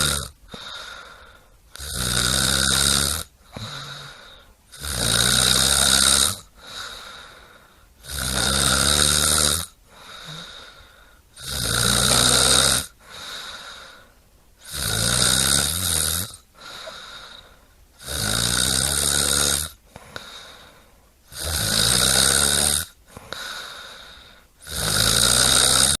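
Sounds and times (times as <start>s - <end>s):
quiet breathing: 0.0s - 2.2s, 3.2s - 26.0s
person snoring: 0.0s - 26.0s.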